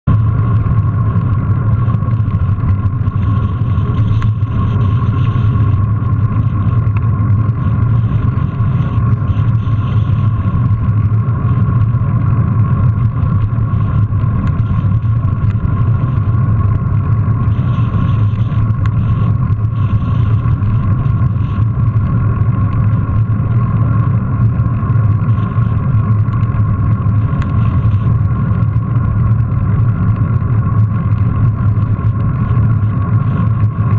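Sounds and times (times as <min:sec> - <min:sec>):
wind rumble: 0:00.0 - 0:33.9
bike tyres on paving stones: 0:00.1 - 0:33.9
faint hum: 0:00.1 - 0:33.9.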